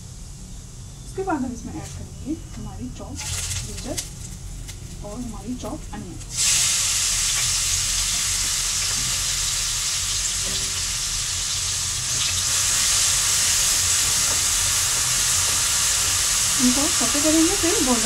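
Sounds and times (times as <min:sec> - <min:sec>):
onion sizzling in hot oil: 0:01.2 - 0:18.0.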